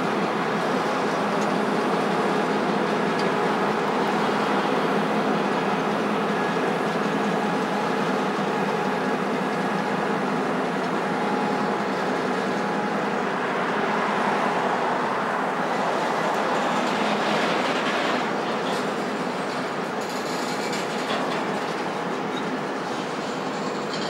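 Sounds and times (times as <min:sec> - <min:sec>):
diesel locomotive engines running: 0:00.0 - 0:24.0
wheels on rail: 0:00.0 - 0:24.0.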